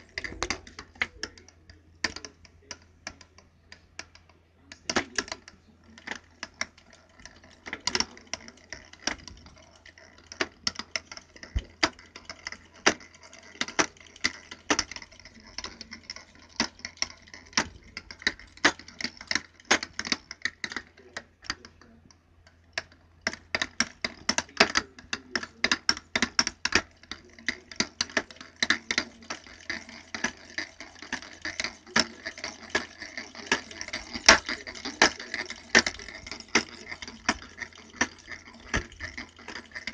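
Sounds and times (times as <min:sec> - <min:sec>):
chain drive clicking and clanking: 0:00.0 - 0:03.4, 0:04.0 - 0:39.9.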